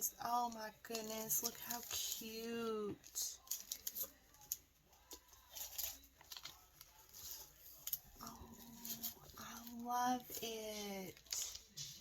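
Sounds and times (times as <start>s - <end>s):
faint voice: 0.0s - 12.0s
paper rustling and crinkling: 0.3s - 12.0s.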